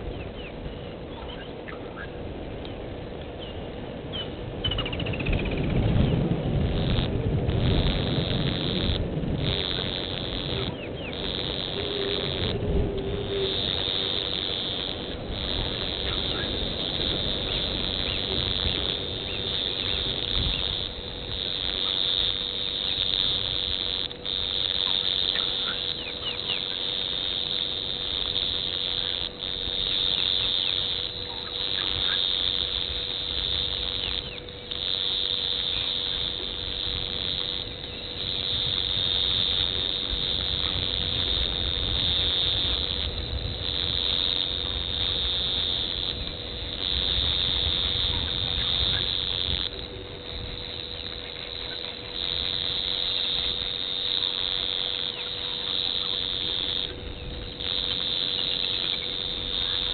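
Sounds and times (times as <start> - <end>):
low rumble: 0.0 - 59.9
insects shrilling: 6.8 - 59.9.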